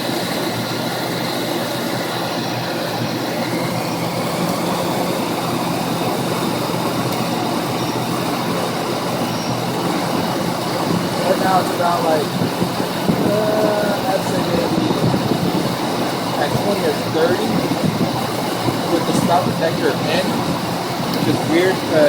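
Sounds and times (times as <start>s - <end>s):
car engine idling with misfire: 0.0s - 22.0s.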